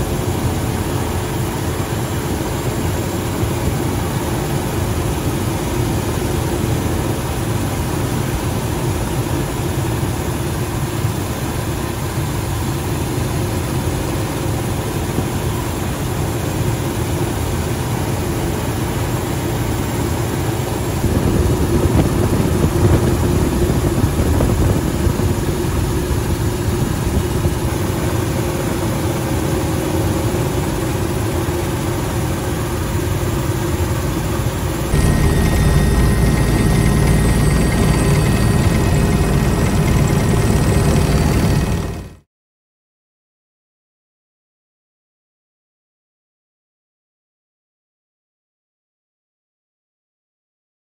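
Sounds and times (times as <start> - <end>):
helicopter engine and rotor: 0.0 - 42.3.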